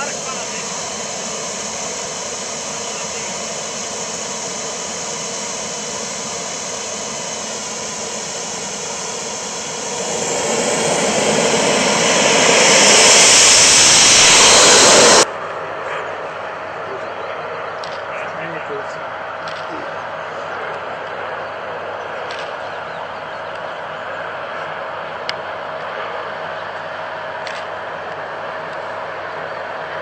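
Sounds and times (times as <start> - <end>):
model jet engine whining: 0.0 - 30.0.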